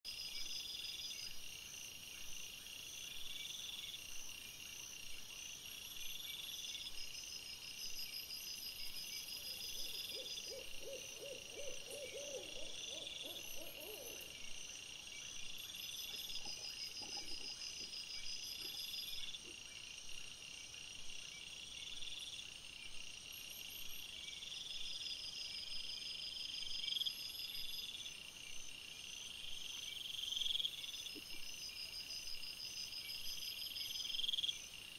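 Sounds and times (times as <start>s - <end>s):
night insects trilling: 0.1s - 34.9s.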